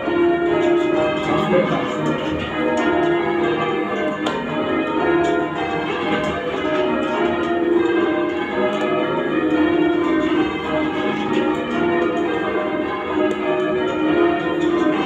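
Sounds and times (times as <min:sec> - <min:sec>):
church bells ringing changes: 0:00.0 - 0:15.0.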